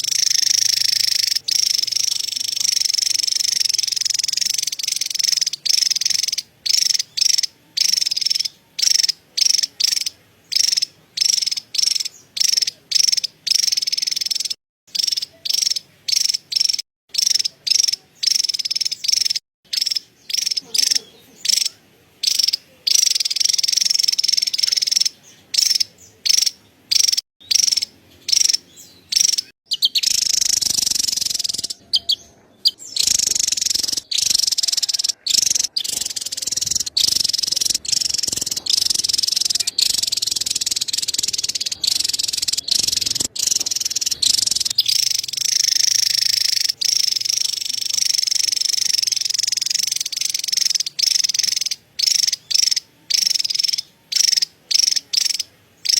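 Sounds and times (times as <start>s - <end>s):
bird chattering call: 0.0s - 55.9s.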